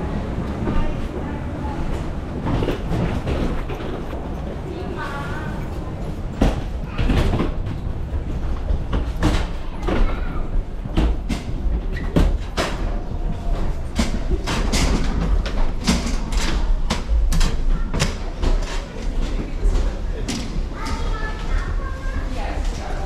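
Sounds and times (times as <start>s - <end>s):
faint voices: 0.0s - 23.0s
knocks and clatter: 1.9s - 23.0s.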